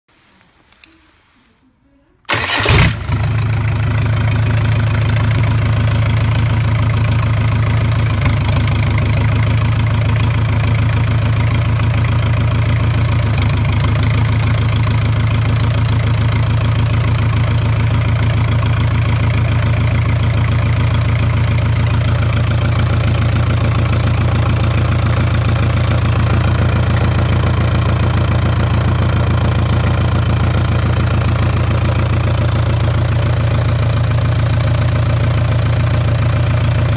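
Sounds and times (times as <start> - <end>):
diesel engine starting and idling: 2.3 - 36.9.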